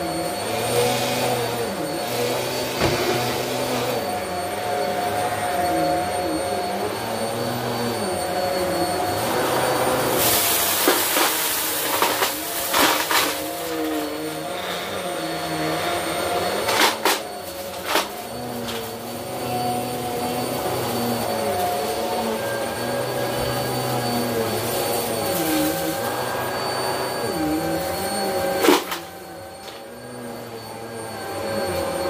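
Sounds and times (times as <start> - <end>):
vacuum cleaner motor whine: 0.0 - 32.0.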